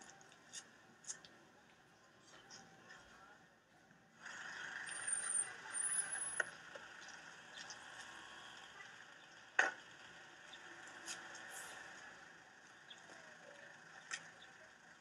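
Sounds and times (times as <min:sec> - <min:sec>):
street noise hiss: 0:00.0 - 0:15.0.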